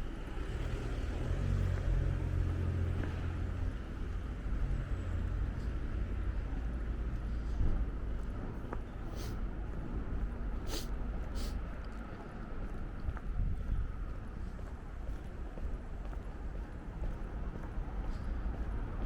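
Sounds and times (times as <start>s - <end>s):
street ambience: 0.0s - 19.0s
vehicle engine rumbling: 0.0s - 19.0s.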